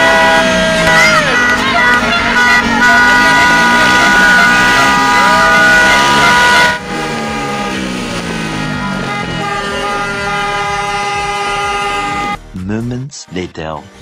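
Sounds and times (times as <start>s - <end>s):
loud noisy din: 0.0s - 12.4s
horns blasting: 0.0s - 12.8s.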